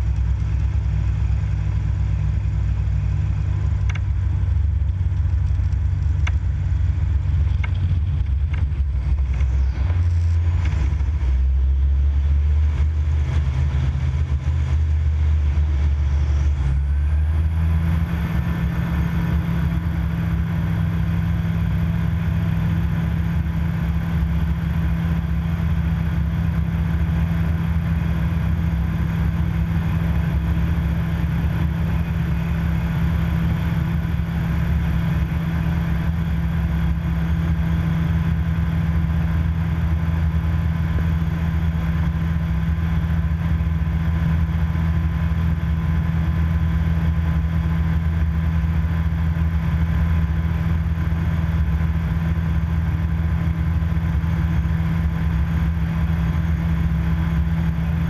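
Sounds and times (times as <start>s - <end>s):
aircraft engine drone: 0.0s - 58.0s.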